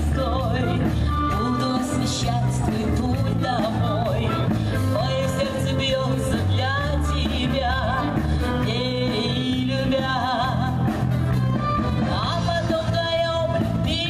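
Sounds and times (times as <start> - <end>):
live brass band dance music: 0.0 - 14.0.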